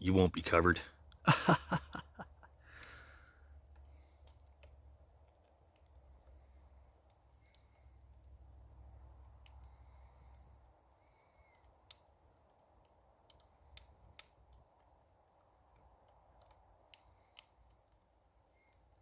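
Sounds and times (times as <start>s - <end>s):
burning branches popping: 0.1s - 19.0s.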